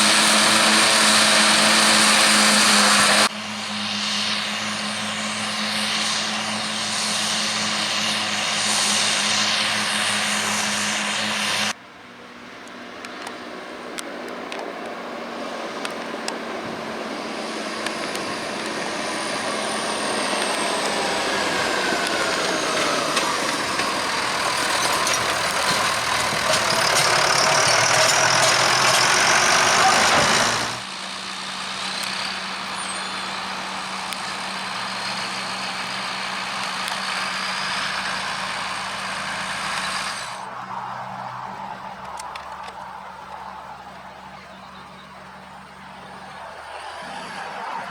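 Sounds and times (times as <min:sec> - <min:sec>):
forage harvester chopping grass: 0:00.0 - 0:11.8, 0:12.7 - 0:40.4
tractor engine running: 0:00.0 - 0:47.9.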